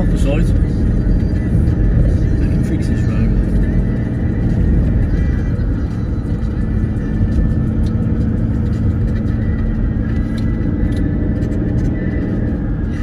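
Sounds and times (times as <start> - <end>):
car interior engine and tyre rumble: 0.0 - 13.0.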